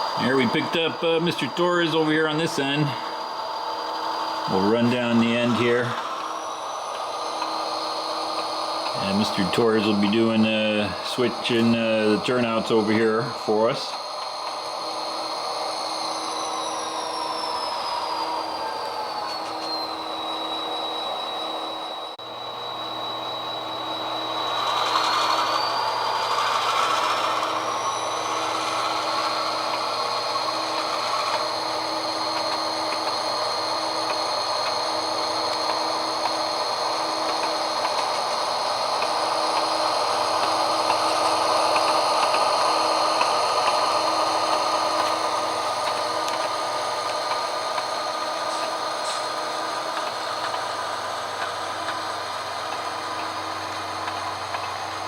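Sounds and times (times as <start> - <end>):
high motor whine: 0.0 - 55.0
model locomotive whirring: 0.0 - 55.0.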